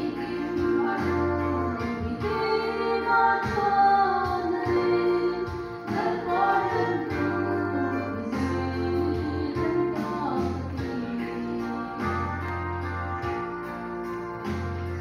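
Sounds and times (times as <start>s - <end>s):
woman singing into microphone: 0.0s - 13.6s
instrumental accompaniment: 0.0s - 15.0s.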